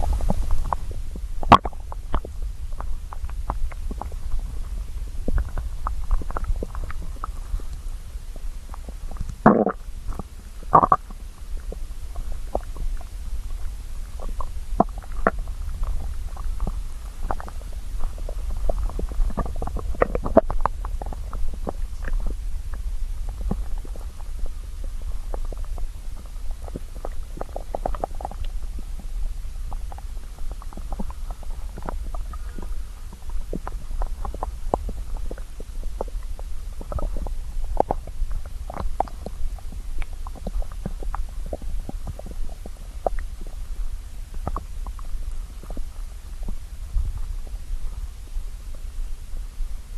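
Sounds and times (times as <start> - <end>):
stomach growling: 0.0 - 49.9.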